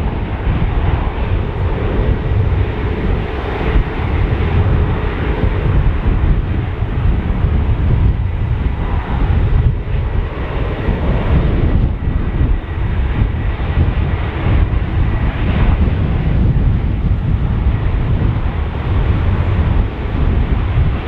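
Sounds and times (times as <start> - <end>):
airliner engines running: 0.0 - 21.0
wind buffeting microphone: 0.0 - 21.0.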